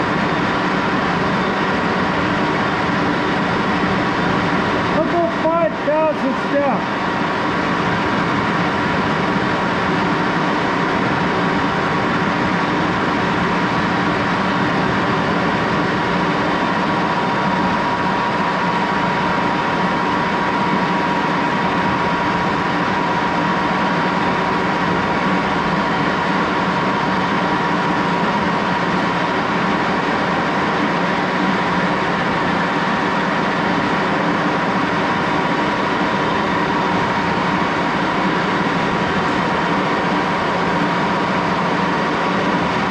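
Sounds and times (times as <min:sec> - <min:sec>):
lathe humming with high tone: 0:00.0 - 0:42.9.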